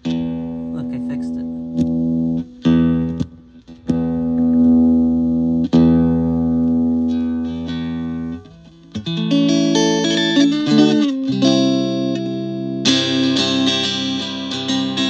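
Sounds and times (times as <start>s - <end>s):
electric guitar through an amp: 0.0s - 15.0s.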